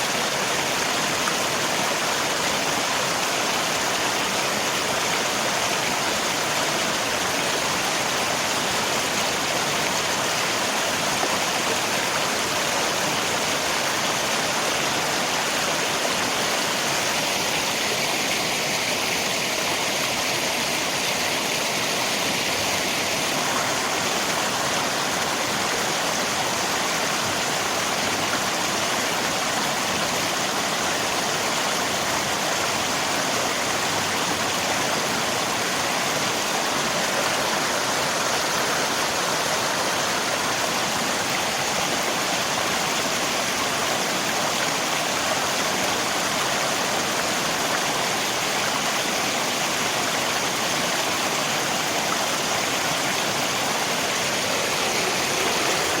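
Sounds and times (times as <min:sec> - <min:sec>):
rain: 0:00.0 - 0:56.0
river water rushing: 0:00.0 - 0:56.0.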